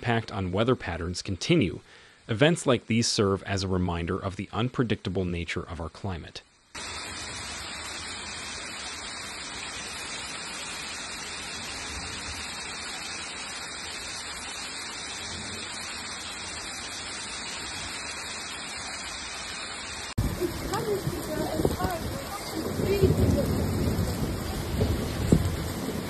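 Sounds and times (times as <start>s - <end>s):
heavy downpour hissing: 0.0s - 26.0s.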